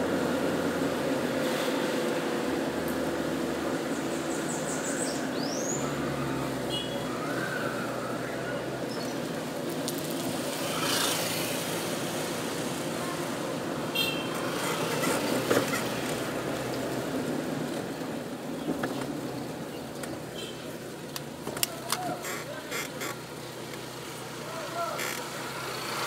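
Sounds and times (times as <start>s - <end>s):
car engine hum: 0.0s - 26.0s
road noise: 0.0s - 26.0s.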